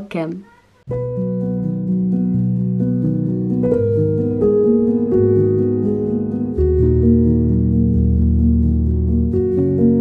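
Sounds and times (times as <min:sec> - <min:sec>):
instrumental music with held notes: 0:00.5 - 0:10.0
light ticking beat: 0:00.9 - 0:10.0.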